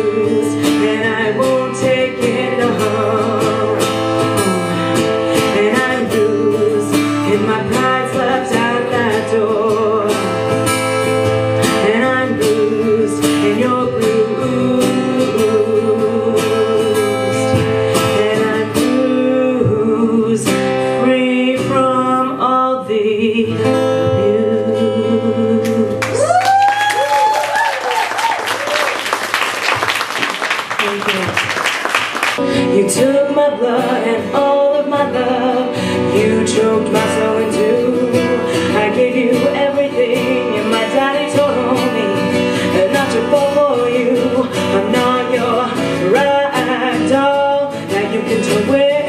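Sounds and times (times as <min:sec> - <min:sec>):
acoustic guitar strumming: 0:00.0 - 0:26.1, 0:32.2 - 0:49.0
person singing: 0:00.0 - 0:28.0, 0:32.4 - 0:49.0.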